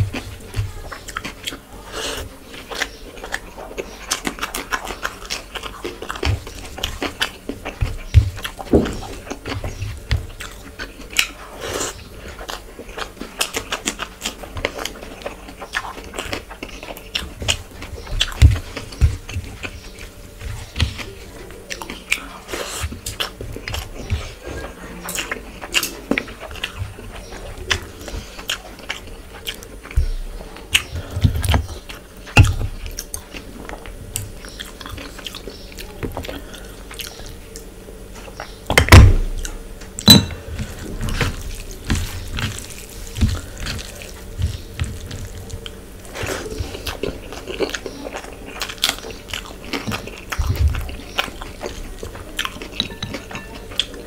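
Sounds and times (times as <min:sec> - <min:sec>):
chewing and lip smacking: 0:00.0 - 0:54.0.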